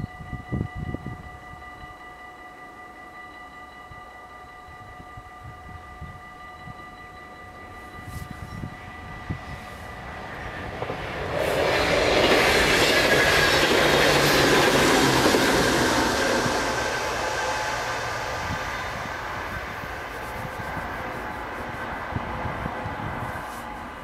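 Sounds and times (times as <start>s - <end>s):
train passing at speed: 4.2s - 24.0s.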